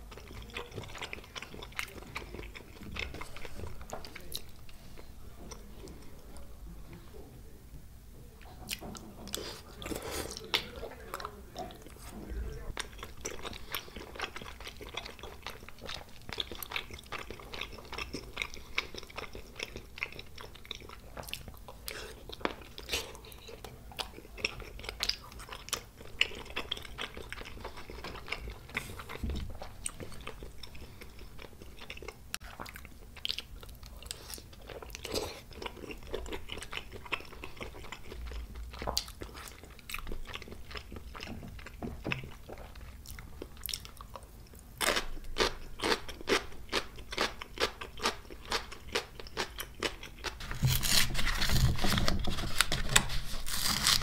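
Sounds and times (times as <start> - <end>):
wet chewing: 0.0 - 6.1, 12.7 - 54.0.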